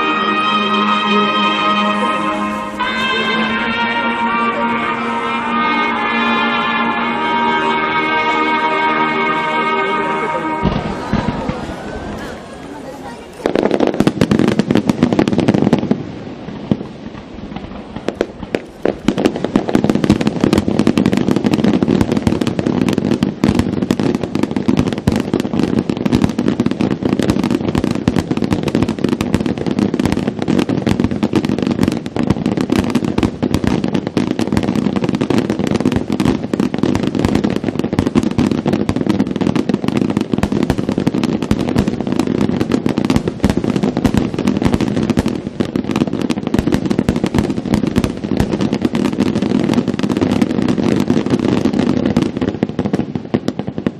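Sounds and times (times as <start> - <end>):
fireworks bursting and crackling: 0.0 - 53.9.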